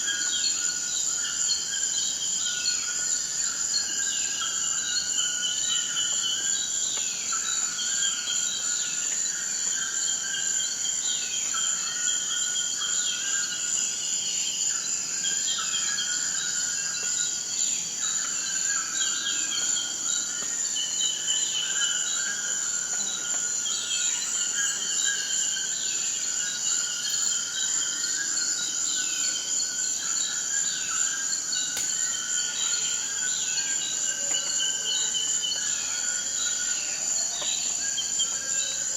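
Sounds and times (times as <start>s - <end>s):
insect trill: 0.0s - 38.9s.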